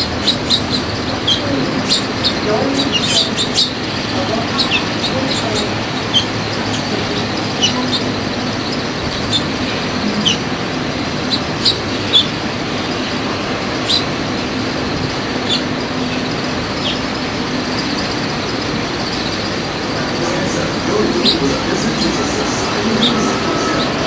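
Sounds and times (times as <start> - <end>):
small birds chirping: 0.0 - 24.0
steady background hum: 0.0 - 24.0.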